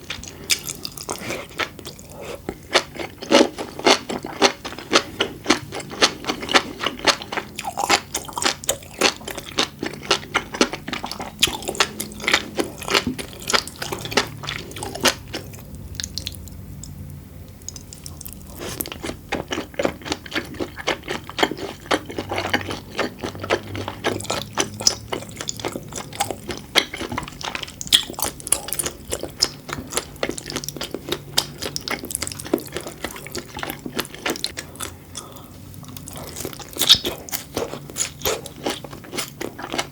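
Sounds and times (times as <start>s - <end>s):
wet chewing with clicks: 0.0s - 39.9s.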